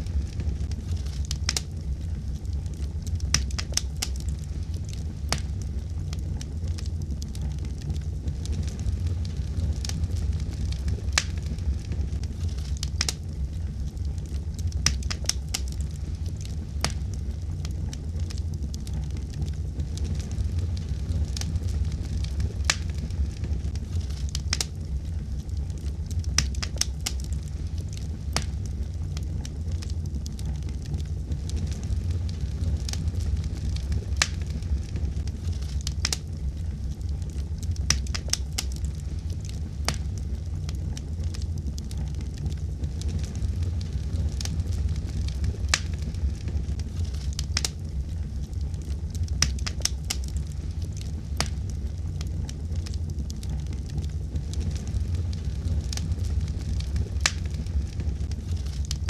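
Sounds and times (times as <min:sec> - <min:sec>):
fire rumbling in a fireplace: 0:00.0 - 0:59.0
wood fire crackling and popping: 0:00.0 - 0:59.0.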